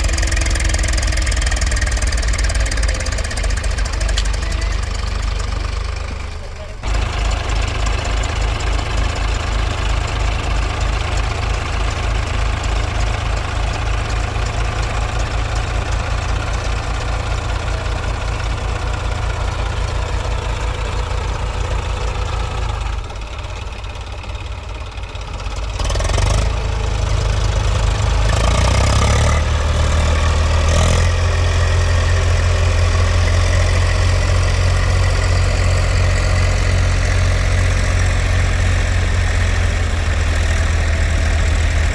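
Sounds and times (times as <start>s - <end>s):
tractor diesel engine idling: 0.0s - 41.9s
tractor engine revving: 0.0s - 41.9s.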